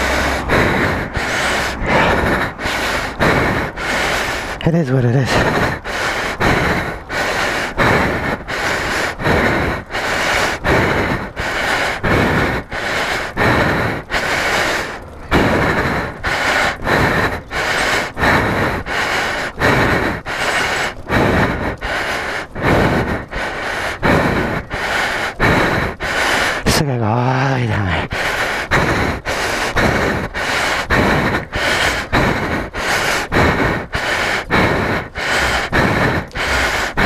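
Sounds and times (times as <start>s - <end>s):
man panting heavily: 0.0s - 37.0s.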